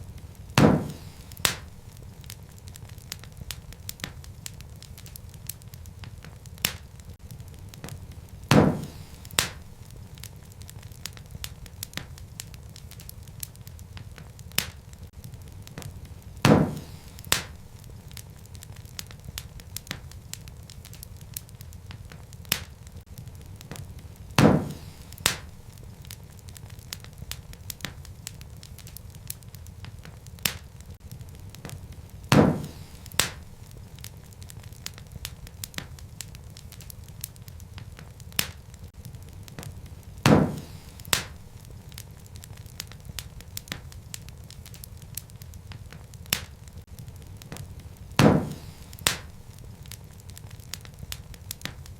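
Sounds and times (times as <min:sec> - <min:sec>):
loud fire pops: 0:00.0 - 0:51.9
wood fire crackling: 0:00.0 - 0:51.9.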